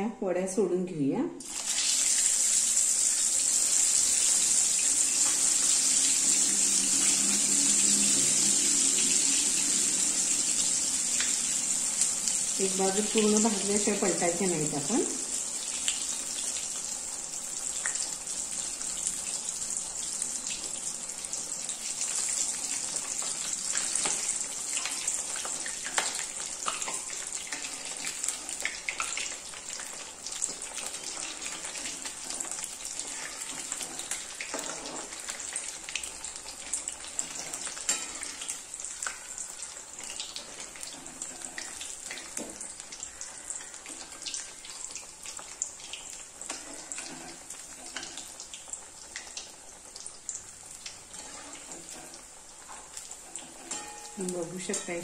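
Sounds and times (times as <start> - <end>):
fritters deep-frying in oil: 1.4 - 55.0.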